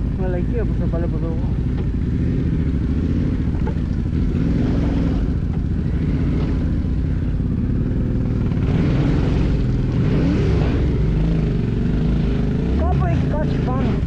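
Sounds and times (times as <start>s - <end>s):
off-road motorcycle engine idling: 0.0s - 14.0s.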